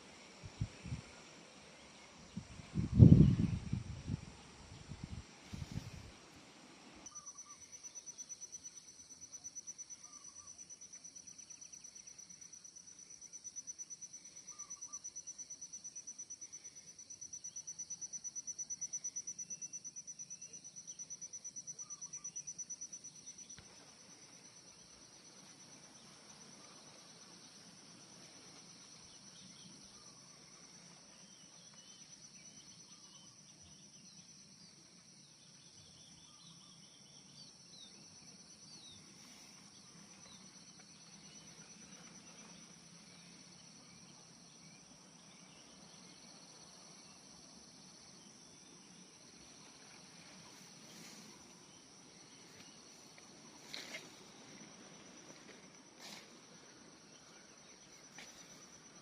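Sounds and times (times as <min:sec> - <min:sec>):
insects trilling: 0:00.0 - 0:59.0
rapid pulsing insect call: 0:00.0 - 0:59.0.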